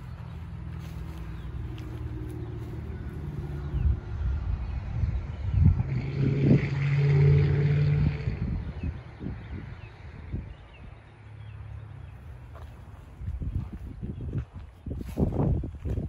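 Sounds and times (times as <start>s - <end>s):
vehicle engine running: 0.0s - 14.5s.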